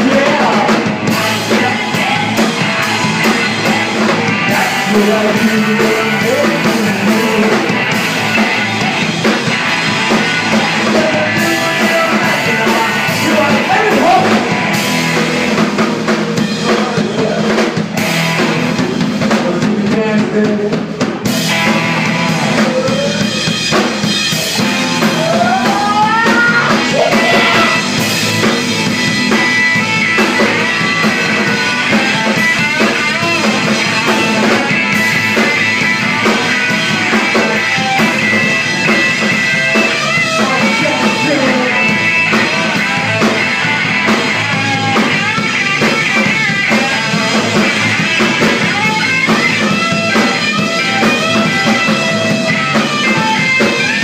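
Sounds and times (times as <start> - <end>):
drum kit: 0.0 - 54.0
electric guitar: 0.0 - 54.0
lead singer: 0.0 - 54.0.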